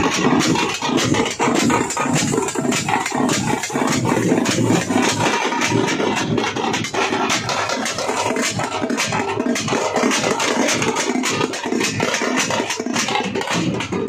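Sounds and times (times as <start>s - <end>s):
frame drums beaten fast: 0.0s - 14.0s.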